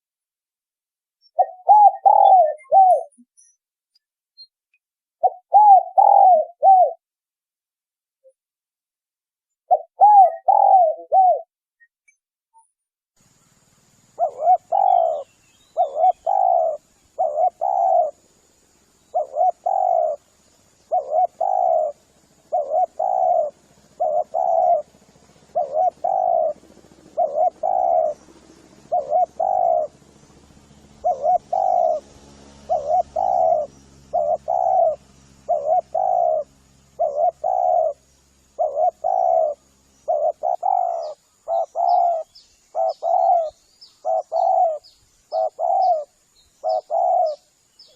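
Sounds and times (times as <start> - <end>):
small birds chirping: 1.2 - 4.6, 5.2 - 7.0, 9.7 - 11.9, 12.5 - 47.9
dove cooing: 1.4 - 3.1, 5.2 - 7.0, 9.7 - 11.5, 14.2 - 18.3, 19.1 - 47.9.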